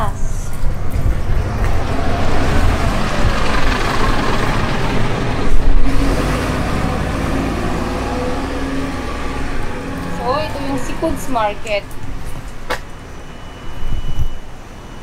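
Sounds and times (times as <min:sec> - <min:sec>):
bus driving past: 0:00.2 - 0:15.0.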